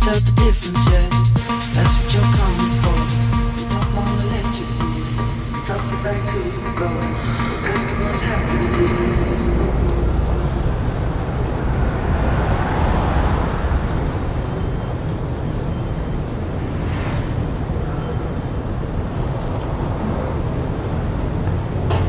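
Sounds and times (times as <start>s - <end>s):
traffic rumble: 2.0s - 22.0s.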